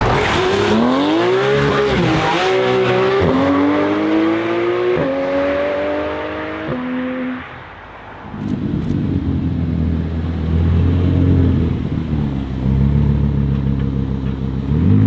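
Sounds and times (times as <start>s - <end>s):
car engine accelerating through gears: 0.0s - 7.5s, 8.3s - 15.0s.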